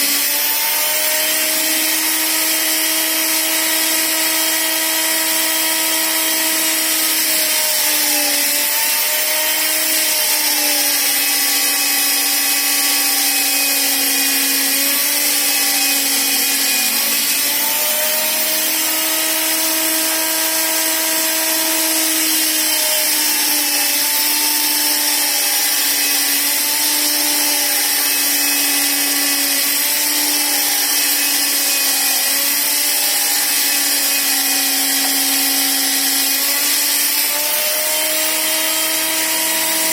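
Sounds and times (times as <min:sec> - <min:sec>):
electric power tool motor running: 0:00.0 - 0:39.9.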